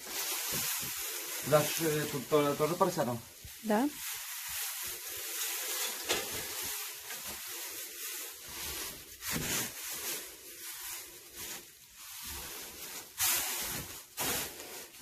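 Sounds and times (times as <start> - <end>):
dry straw rustling and crackling: 0.0 - 15.0.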